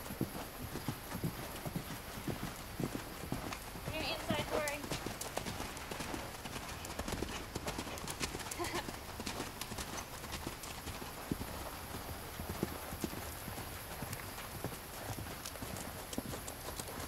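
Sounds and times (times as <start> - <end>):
horse hoofbeats on sand: 0.0 - 17.0.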